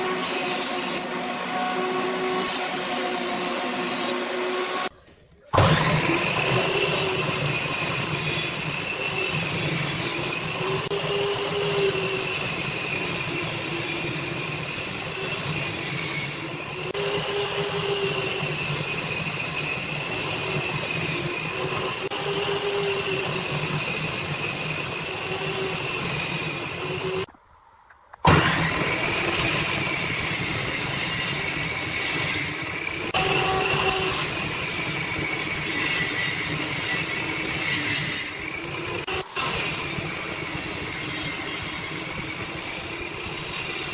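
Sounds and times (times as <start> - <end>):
electric power tool whining: 0.0 - 4.9, 5.6 - 27.3, 28.2 - 43.9.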